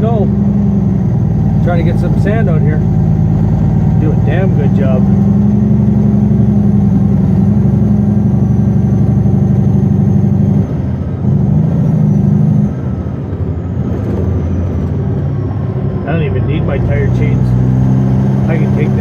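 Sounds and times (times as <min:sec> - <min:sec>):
diesel truck engine from inside cab: 0:00.0 - 0:19.0.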